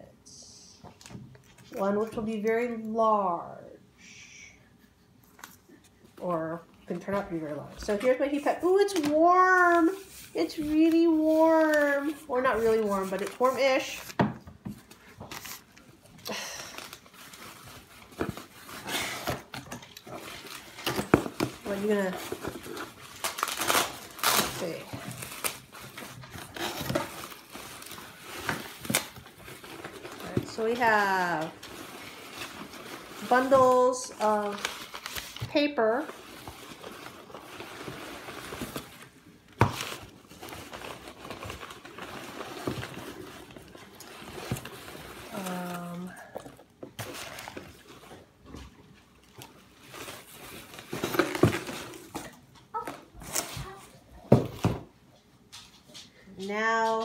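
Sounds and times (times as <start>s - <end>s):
paper and bubble wrap crinkling: 5.3s - 54.8s.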